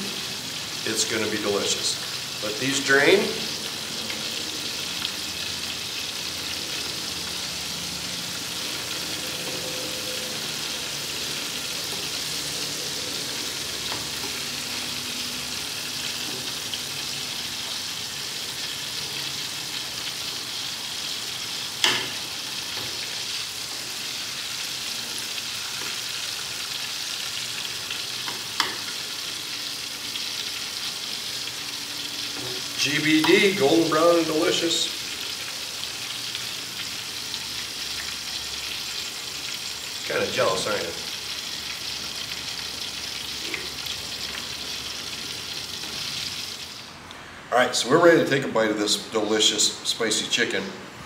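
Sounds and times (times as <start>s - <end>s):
chicken deep-frying in hot oil: 0.0s - 47.1s.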